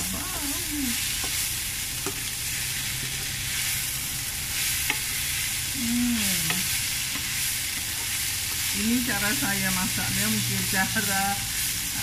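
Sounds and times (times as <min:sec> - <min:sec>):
leaves sizzling in a hot pan: 0:00.0 - 0:12.0.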